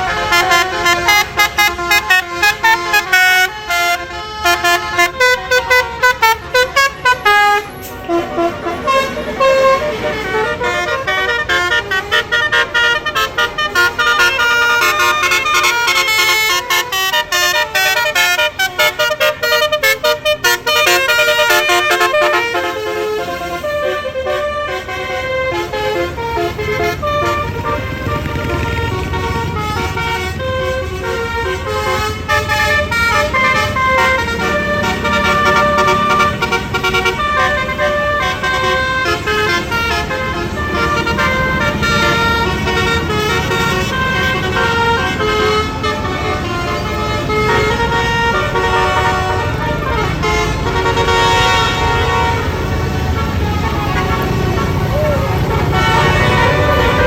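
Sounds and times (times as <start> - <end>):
bus air horns playing a tune: 0.0 - 57.0
bus engine running: 0.0 - 57.0.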